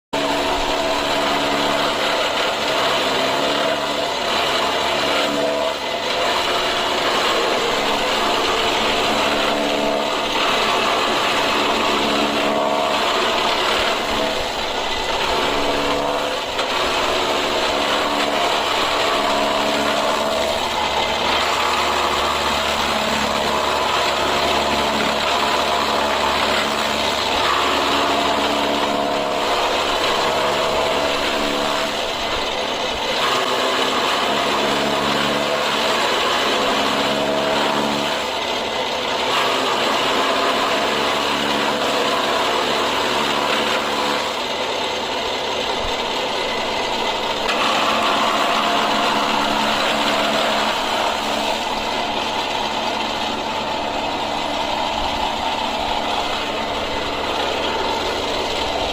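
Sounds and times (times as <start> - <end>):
chaff cutter machine drone: 0.1 - 58.9.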